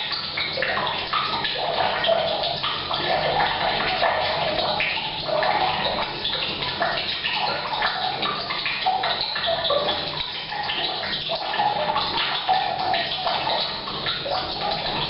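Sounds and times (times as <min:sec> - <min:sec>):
water pouring into a tank: 0:00.0 - 0:15.0.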